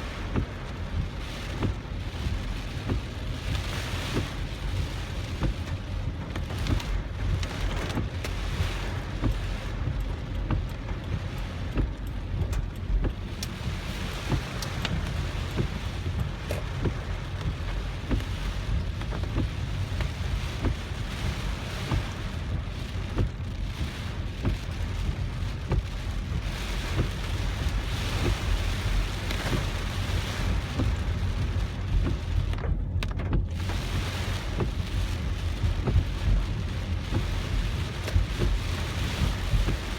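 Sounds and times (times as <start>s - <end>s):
car rumble: 0.0s - 39.9s
heavy rain beating on a car: 0.0s - 39.9s
wind: 0.0s - 39.9s.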